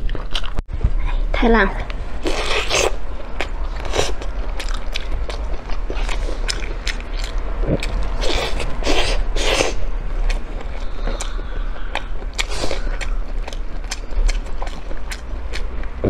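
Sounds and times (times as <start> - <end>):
low electrical hum: 0.0 - 16.0
crunchy bites and wet chewing: 2.2 - 16.0.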